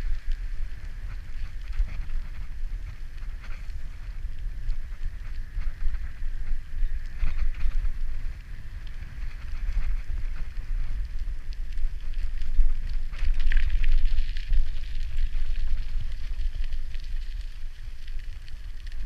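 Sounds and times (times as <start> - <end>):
bicycle tyre noise: 0.0 - 19.0
bike clicks and rattles: 0.0 - 19.0
wind buffeting microphone: 0.0 - 19.0.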